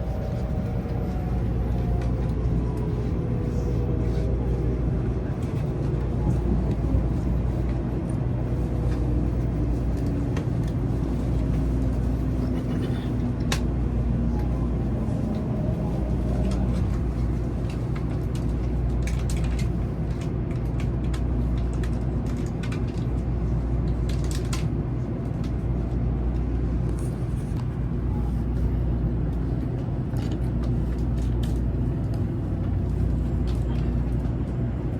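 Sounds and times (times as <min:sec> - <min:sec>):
train rumbling at speed: 0:00.0 - 0:34.9.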